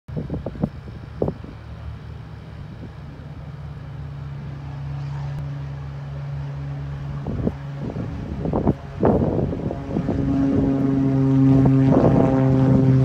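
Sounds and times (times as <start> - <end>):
propeller plane engine droning: 0.1 - 13.0.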